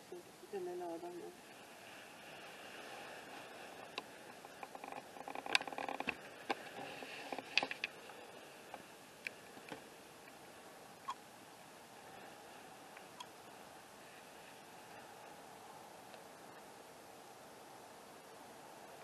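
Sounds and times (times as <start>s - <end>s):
faint rustling: 0.0s - 19.0s
steady low hiss: 0.0s - 19.0s.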